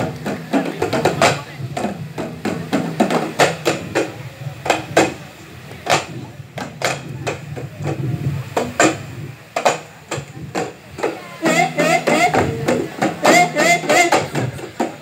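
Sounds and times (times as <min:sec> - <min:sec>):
frame drum beats: 0:00.0 - 0:15.0.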